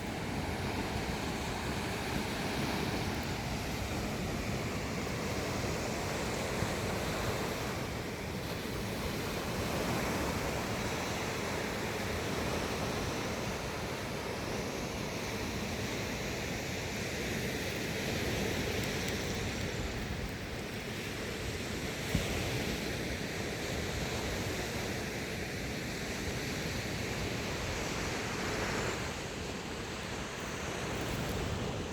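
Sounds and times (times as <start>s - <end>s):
waves washing on shore: 0.0s - 31.9s.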